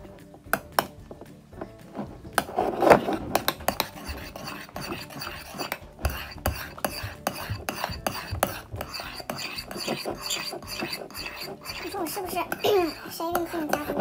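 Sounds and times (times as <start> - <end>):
soft scraping: 1.5 - 14.0.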